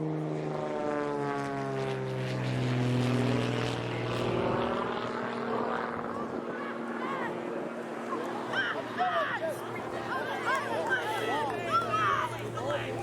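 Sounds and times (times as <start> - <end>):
light aircraft flying over: 0.0 - 13.0.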